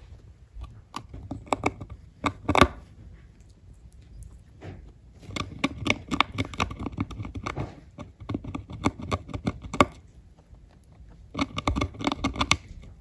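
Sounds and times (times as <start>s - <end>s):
guinea pig munching hay: 0.0s - 13.0s.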